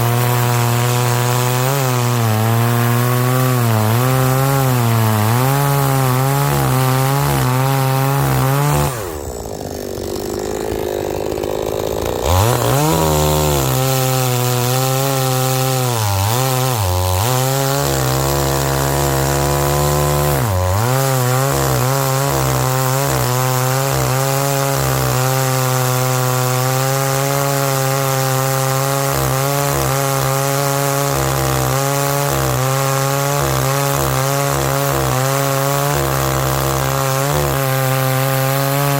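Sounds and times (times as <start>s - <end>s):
chainsaw cutting firewood: 0.0s - 38.9s.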